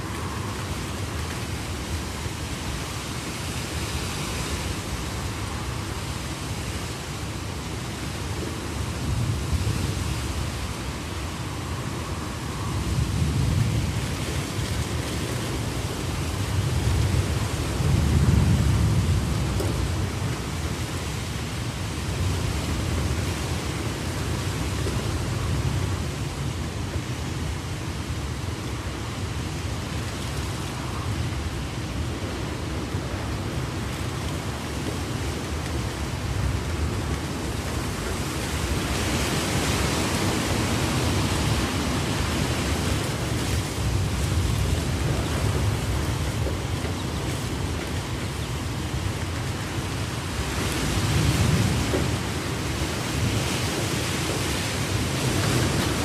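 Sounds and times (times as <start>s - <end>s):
heavy rain: 0.0s - 56.0s
thunder rumbling: 8.4s - 56.0s.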